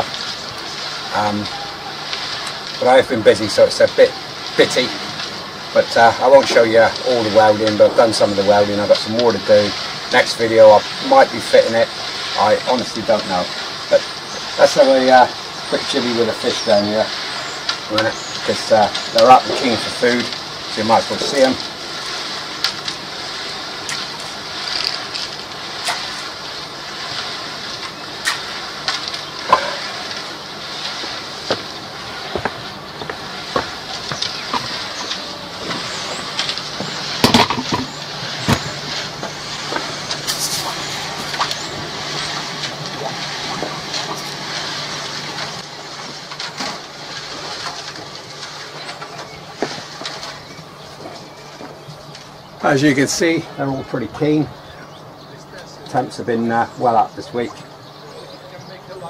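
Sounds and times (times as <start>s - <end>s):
fish splashing and slurping: 0.0s - 59.0s
low steady hum: 0.0s - 59.0s
steady rushing hiss: 0.0s - 59.0s.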